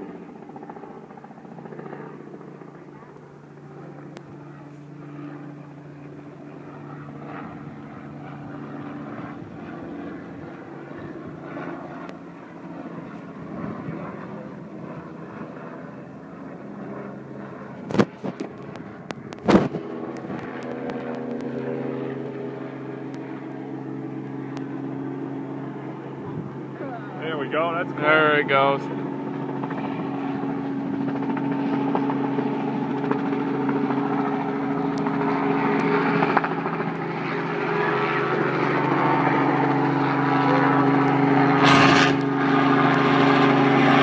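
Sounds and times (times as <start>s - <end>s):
helicopter engine and rotor: 0.0s - 44.0s.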